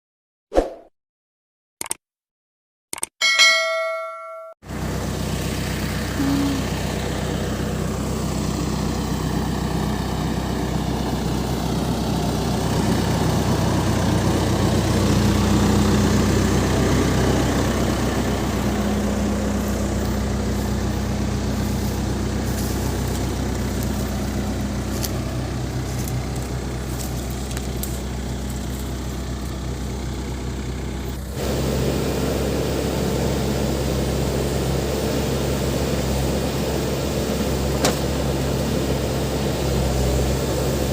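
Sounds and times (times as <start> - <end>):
backhoe diesel engine running: 3.6 - 40.9.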